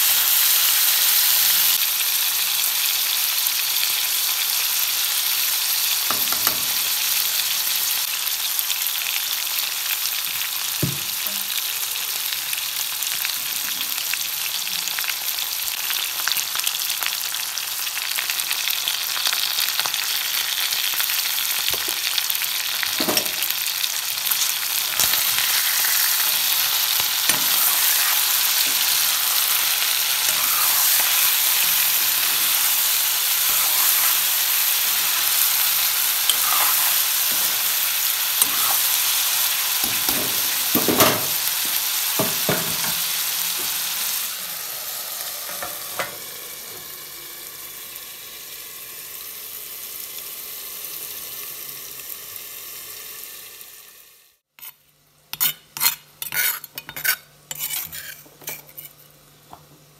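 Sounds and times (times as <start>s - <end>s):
frying sizzle: 0.0s - 57.6s.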